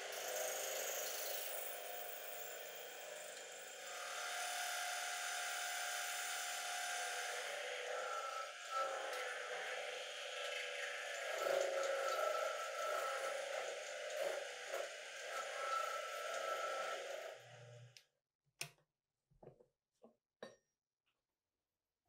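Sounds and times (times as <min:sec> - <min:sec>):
milling machine cutting steel: 0:00.0 - 0:17.9.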